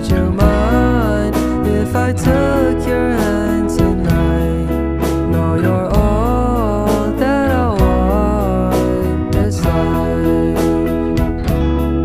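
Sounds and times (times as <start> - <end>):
bass line: 0.0 - 12.0
guitar: 0.0 - 12.0
person singing: 0.0 - 12.0.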